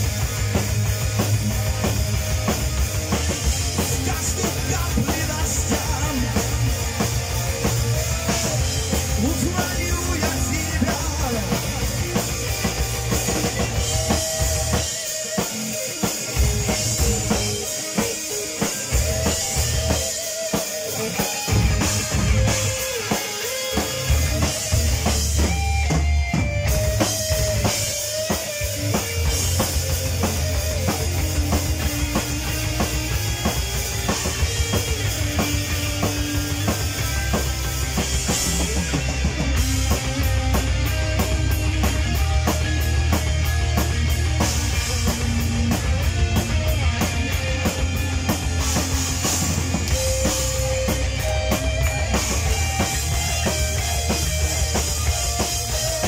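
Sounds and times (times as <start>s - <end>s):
bass guitar: 0.0s - 56.0s
drum kit: 0.0s - 56.0s
heavy rock band playing: 0.0s - 56.0s.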